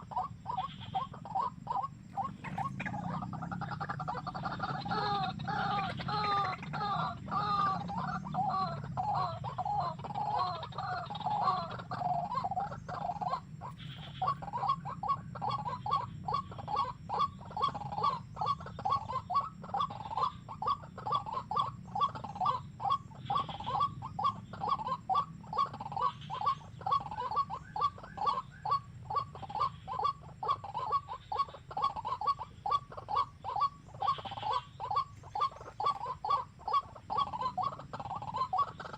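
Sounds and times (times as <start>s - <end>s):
small bird calling: 0.0s - 38.9s.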